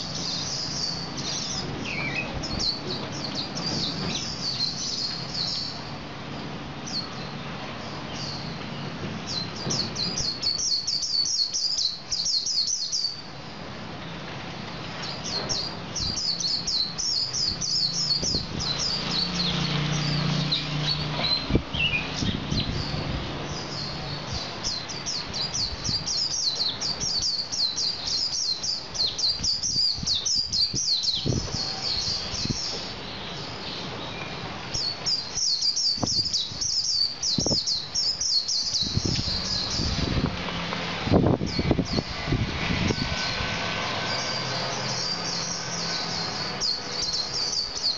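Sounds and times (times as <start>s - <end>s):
bird twittering chirps: 0.0s - 6.0s, 6.8s - 13.3s, 15.0s - 40.2s, 44.1s - 47.9s.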